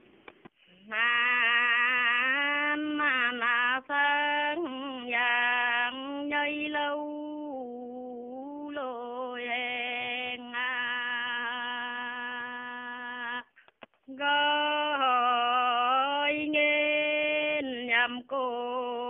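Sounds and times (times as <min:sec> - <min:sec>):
woman singing unaccompanied: 0:00.7 - 0:19.0.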